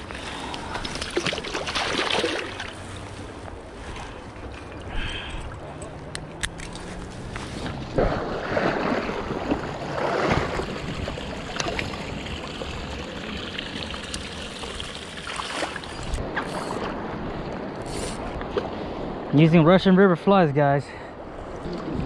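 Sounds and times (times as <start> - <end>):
river water rushing and splashing: 0.8 - 19.5.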